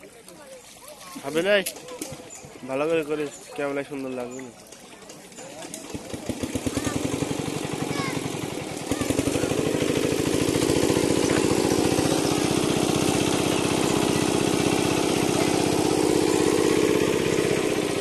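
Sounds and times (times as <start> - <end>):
small engine running: 1.0 - 18.0.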